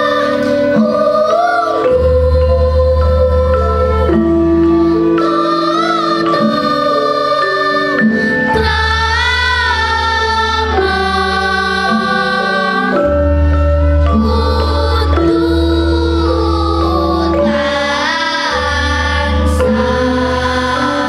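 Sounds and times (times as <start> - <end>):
girls choir singing: 0.0 - 21.0
instrumental accompaniment with deep bass: 0.0 - 21.0.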